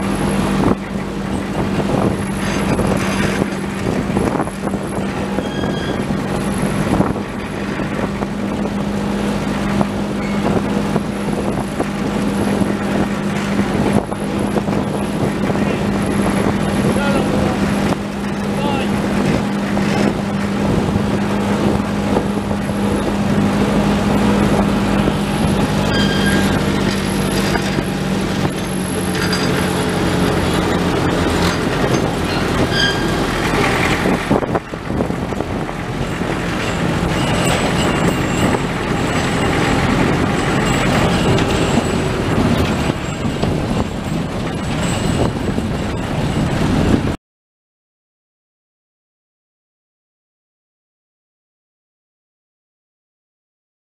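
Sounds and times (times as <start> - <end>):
diesel engine running: 0.0 - 47.2
train rolling along track: 0.0 - 47.2
wagons rattling and clanking: 0.0 - 47.2.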